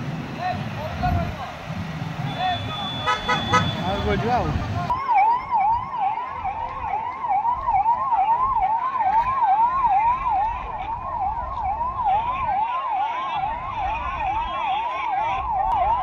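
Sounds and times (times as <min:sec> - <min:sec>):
siren yelping: 0:02.3 - 0:16.0.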